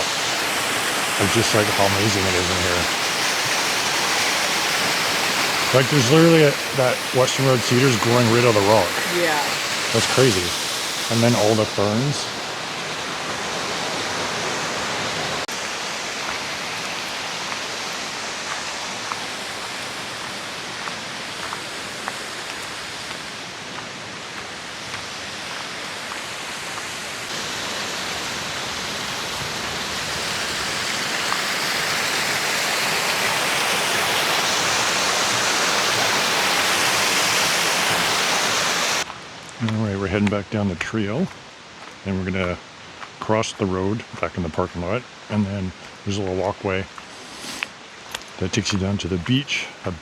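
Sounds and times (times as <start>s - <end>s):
waterfall rushing: 0.0s - 39.1s, 45.9s - 48.7s.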